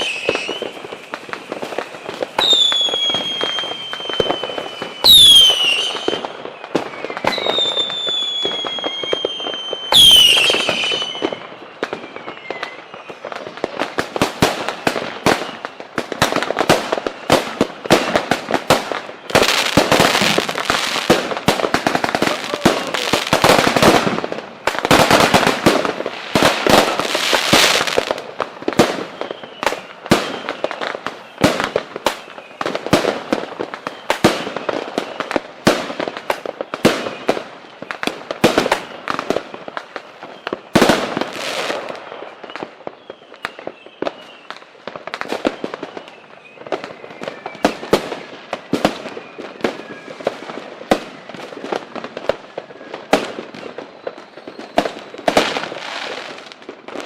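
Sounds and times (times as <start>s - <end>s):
faint whistling fireworks: 0.0s - 57.0s
fireworks bangs and pops: 0.0s - 57.0s.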